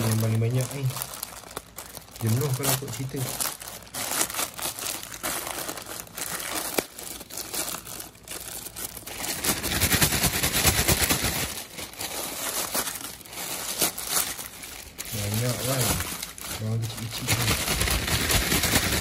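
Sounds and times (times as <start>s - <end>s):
plastic mailer bag crinkling: 0.0s - 19.0s.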